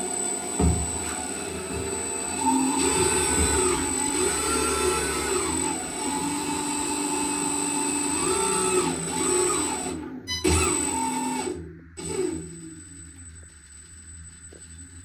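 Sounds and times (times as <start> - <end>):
electric motor whirring whine: 0.0 - 15.0.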